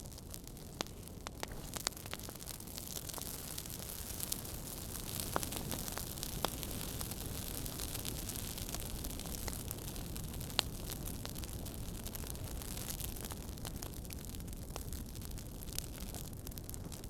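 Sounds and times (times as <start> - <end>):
fire rumble and hiss: 0.0 - 17.0
fire sharp pops: 0.0 - 17.0.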